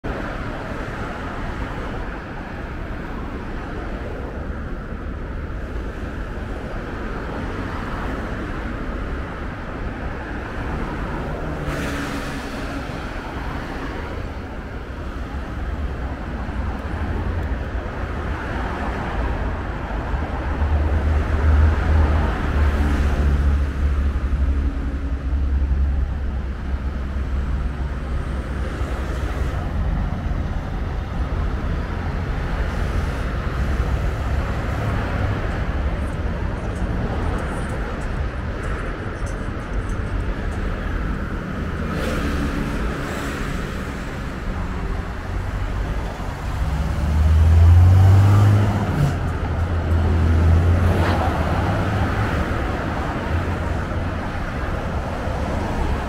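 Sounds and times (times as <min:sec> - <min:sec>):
heavy vehicles passing: 0:00.0 - 0:56.0
road traffic noise: 0:00.0 - 0:56.0.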